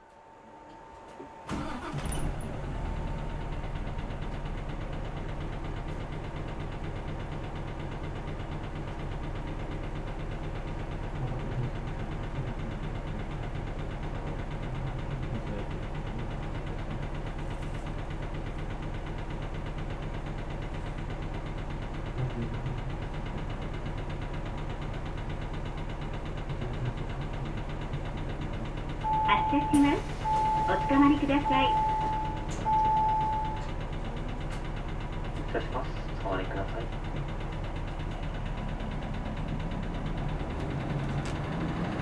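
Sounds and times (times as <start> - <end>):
bus diesel engine idling: 1.3 - 42.0.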